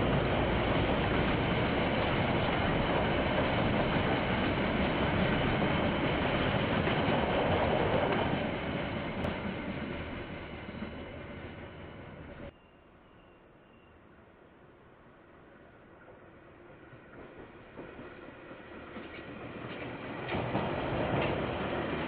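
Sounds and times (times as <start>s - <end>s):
train wheels rumbling on rail: 0.0s - 12.5s, 15.6s - 22.0s.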